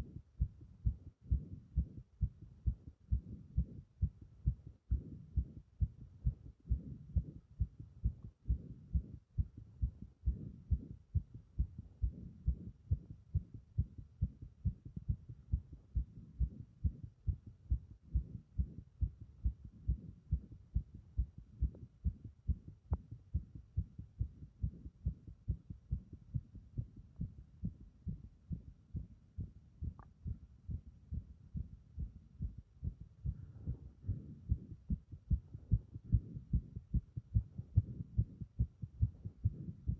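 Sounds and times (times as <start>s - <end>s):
fast heartbeat thumps: 0.0s - 39.9s.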